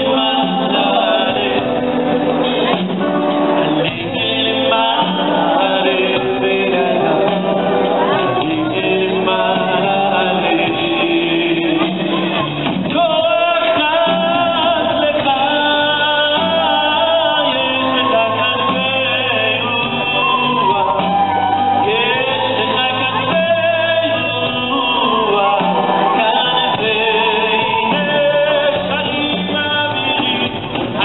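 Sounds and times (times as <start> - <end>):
drums: 0.0 - 31.0
keyboards: 0.0 - 31.0
male lead vocal singing: 0.0 - 31.0.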